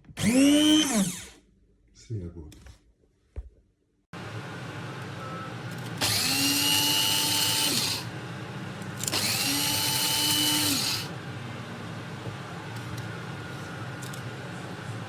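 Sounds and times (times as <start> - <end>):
coffee grinder motor whining: 0.1 - 1.4, 4.2 - 15.0.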